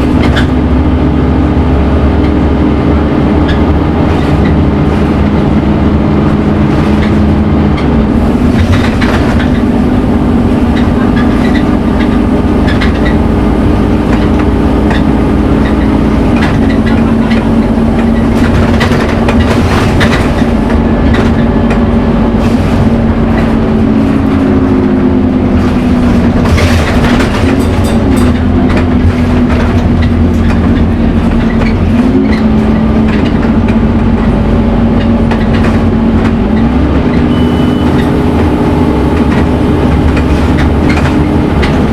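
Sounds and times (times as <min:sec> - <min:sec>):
bus body rattling: 0:00.0 - 0:41.9
bus engine whining: 0:00.0 - 0:41.9.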